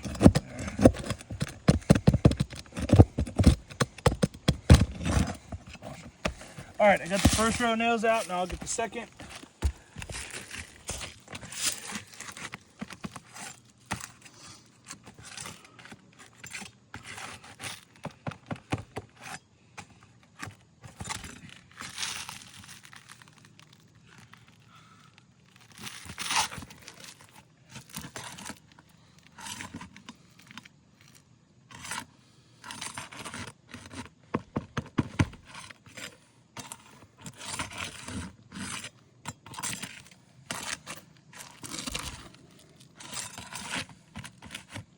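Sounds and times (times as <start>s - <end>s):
scraping against gritty shingle: 0.0s - 44.9s.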